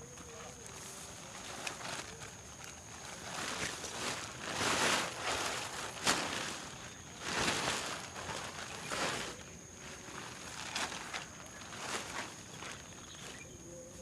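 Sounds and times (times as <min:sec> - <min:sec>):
rustling noise: 0:00.0 - 0:13.5.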